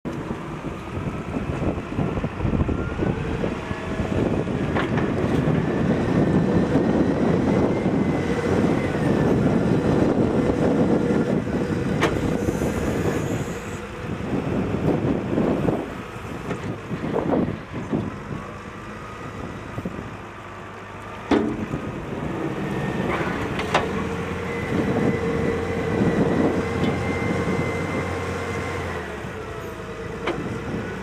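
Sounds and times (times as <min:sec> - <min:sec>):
diesel engine under load: 0:00.1 - 0:31.0
faint engine whine: 0:00.1 - 0:31.0.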